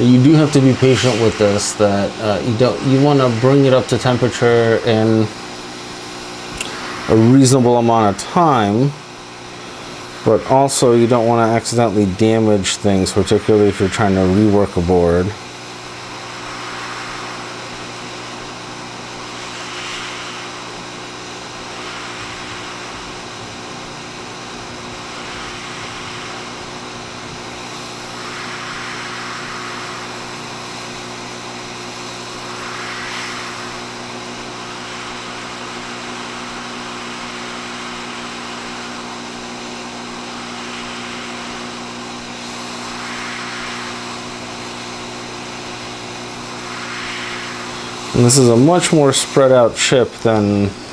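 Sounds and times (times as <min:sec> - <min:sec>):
hot air blower hissing: 0:00.0 - 0:50.9
low hum: 0:00.0 - 0:50.9.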